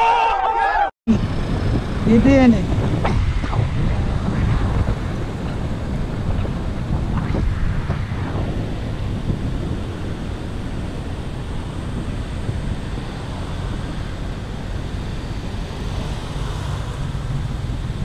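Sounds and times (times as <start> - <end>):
road noise: 0.0 - 18.0
wind buffeting microphone: 1.1 - 18.0.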